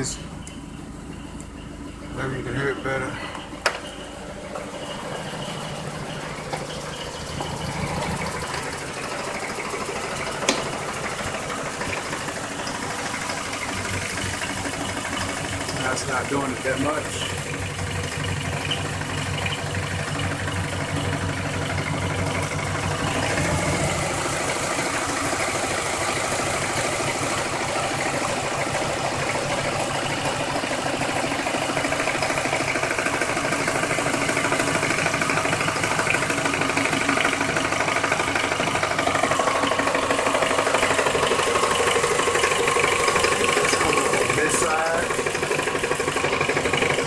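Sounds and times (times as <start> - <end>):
car engine idling: 0.0 - 47.0
rapid engine ticking: 0.0 - 47.0.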